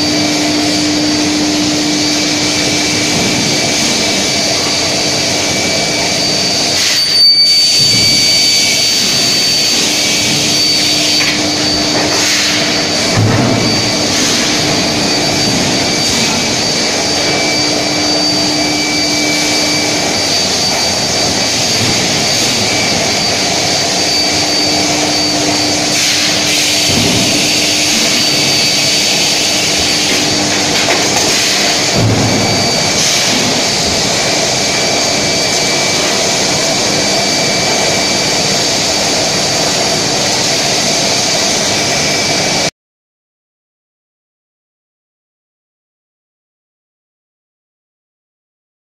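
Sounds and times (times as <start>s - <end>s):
high-pitched electrical whine: 0.0s - 42.7s
industrial furnace noise: 0.0s - 42.7s.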